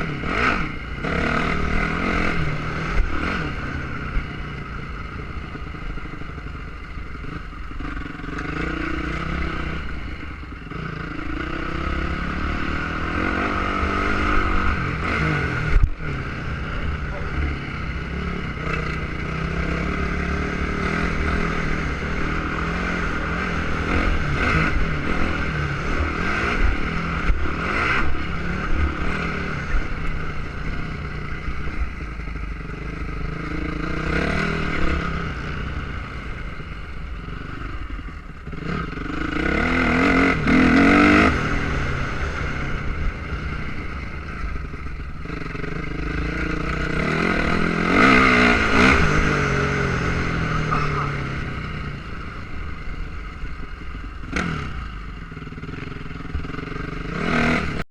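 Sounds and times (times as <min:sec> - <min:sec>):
motocross engines revving: 0:00.0 - 0:04.4, 0:05.3 - 0:57.9.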